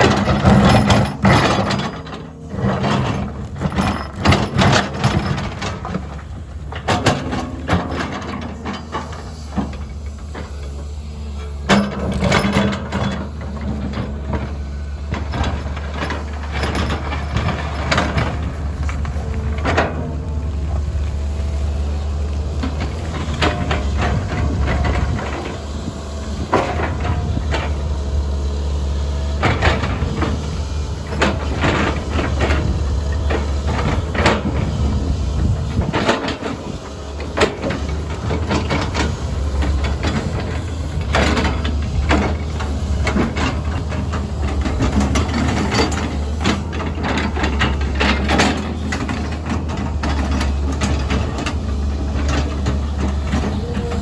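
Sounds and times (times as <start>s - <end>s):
machine clanks and knocks: 0.0s - 28.4s, 29.0s - 54.0s
diesel engine running: 0.0s - 54.0s.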